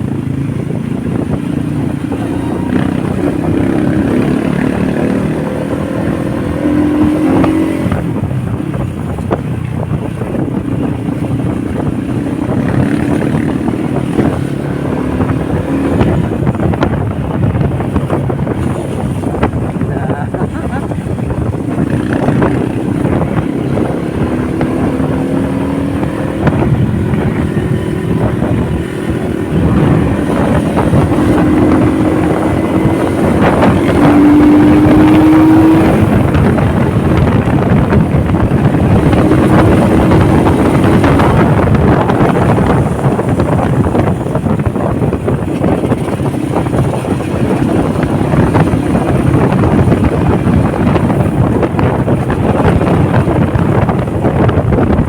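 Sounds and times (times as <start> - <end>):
motorcycle engine: 0.0 - 55.0
wind rush on microphone: 0.0 - 55.0.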